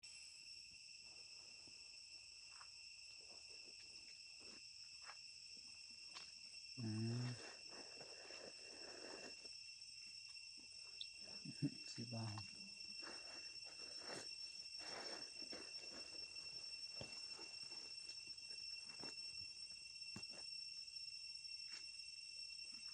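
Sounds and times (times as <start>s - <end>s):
insects chirping: 0.0s - 22.9s.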